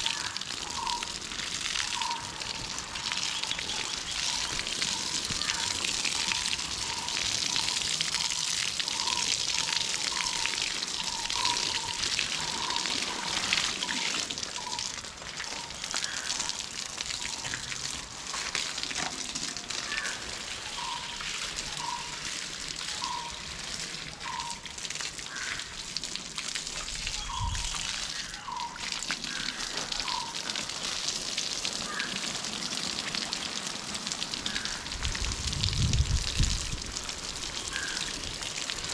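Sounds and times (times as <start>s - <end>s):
water gushing from garden hose: 0.0s - 38.9s
water splashing on soil: 0.0s - 38.9s.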